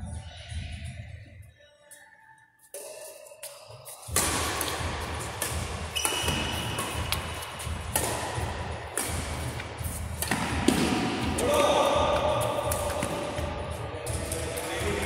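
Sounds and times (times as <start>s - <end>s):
rackets striking shuttlecock: 2.7s - 15.0s.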